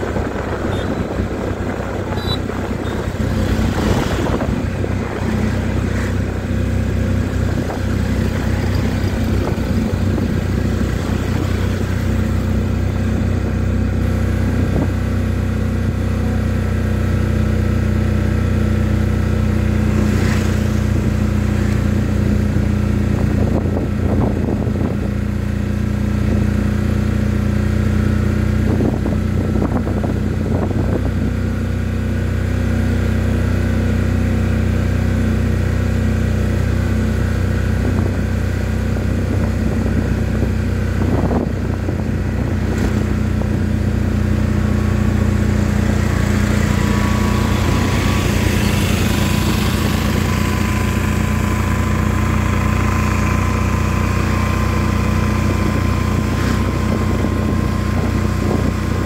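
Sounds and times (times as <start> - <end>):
vehicle engine running: 0.0 - 59.0
wind and road noise: 0.0 - 59.0.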